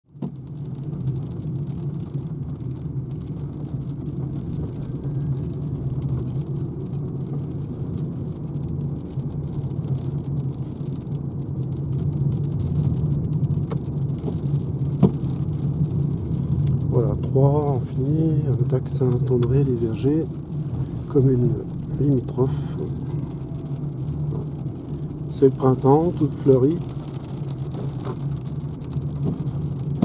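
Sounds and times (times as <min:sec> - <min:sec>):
road and tyre rumble: 0:00.0 - 0:30.0.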